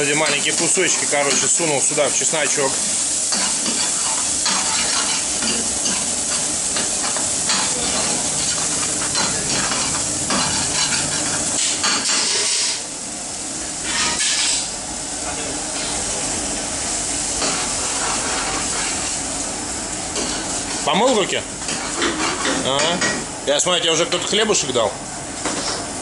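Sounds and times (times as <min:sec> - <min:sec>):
garlic sizzling in a frying pan: 0:00.0 - 0:24.7.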